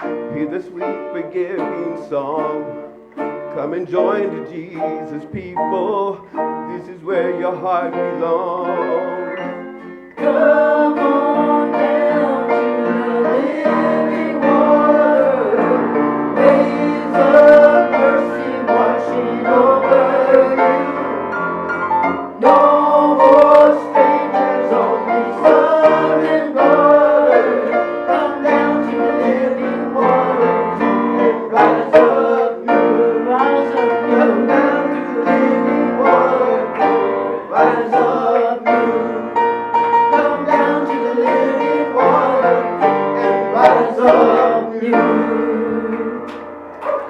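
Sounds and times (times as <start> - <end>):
worship song with piano and singing: 0.0 - 47.0.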